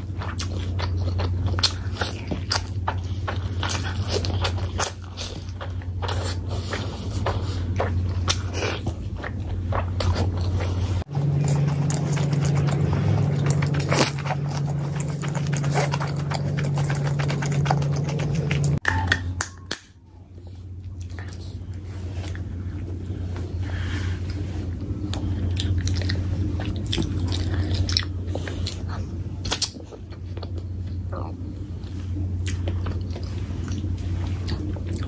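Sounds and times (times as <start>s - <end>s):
close chewing and biting: 0.0s - 35.0s
low hum: 0.0s - 35.0s.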